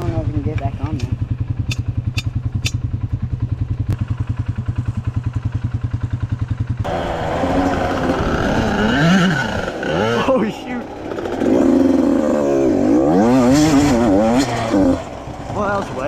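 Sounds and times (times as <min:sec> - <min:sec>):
dirt bike engine idling: 0:00.0 - 0:16.0.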